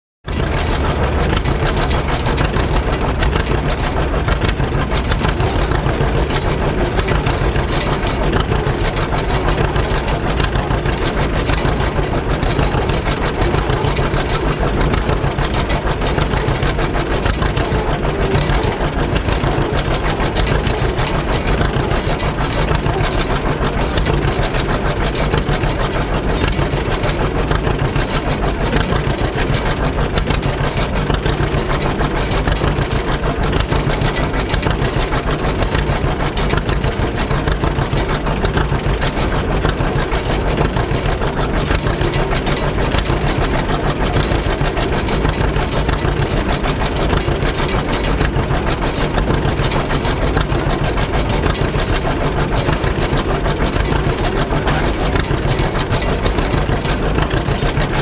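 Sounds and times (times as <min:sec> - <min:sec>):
tractor engine running: 0:00.2 - 0:58.0.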